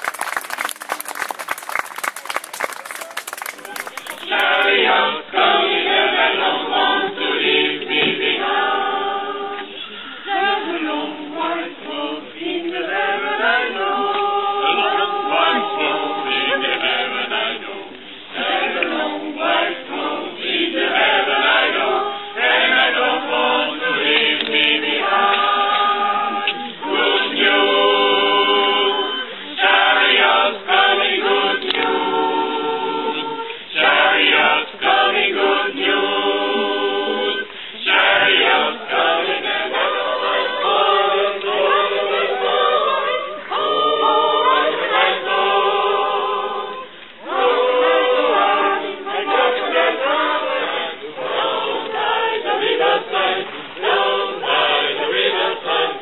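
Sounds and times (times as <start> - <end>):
mixed choir singing a cappella: 3.9 - 56.0.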